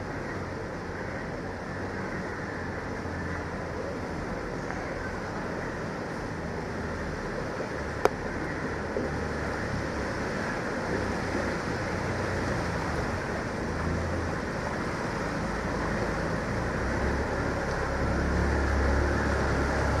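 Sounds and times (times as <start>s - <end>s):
small engine rumbling: 0.0s - 20.0s
water sloshing and splashing: 0.0s - 20.0s.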